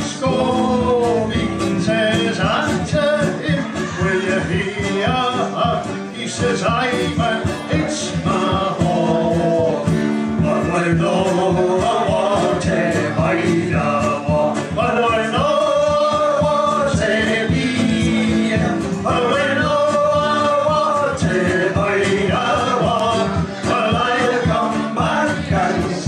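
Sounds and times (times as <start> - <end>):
frame drum beat: 0.0 - 26.0
men singing folk song: 0.0 - 26.0
strummed acoustic guitar: 0.0 - 26.0.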